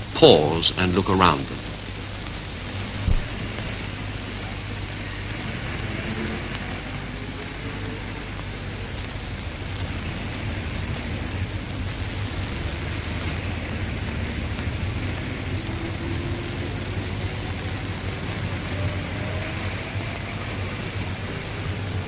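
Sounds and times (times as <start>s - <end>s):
film soundtrack hiss: 0.0s - 22.0s.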